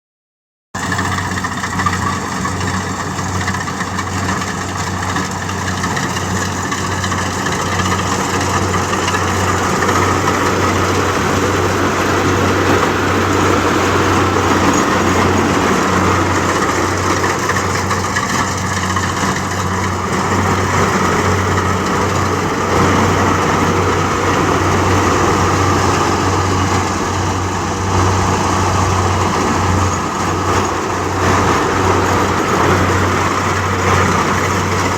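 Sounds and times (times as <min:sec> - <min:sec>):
diesel engine hum: 0:00.8 - 0:34.9.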